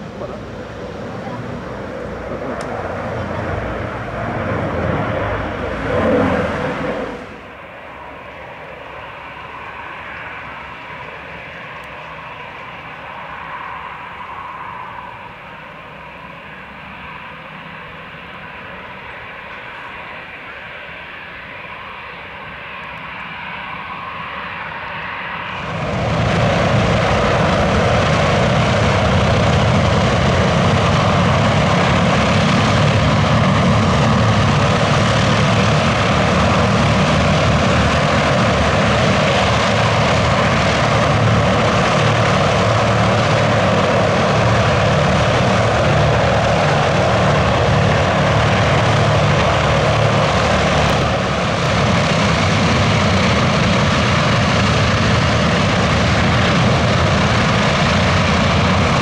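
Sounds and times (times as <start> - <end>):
radial aircraft engines running: 0.0 - 59.0.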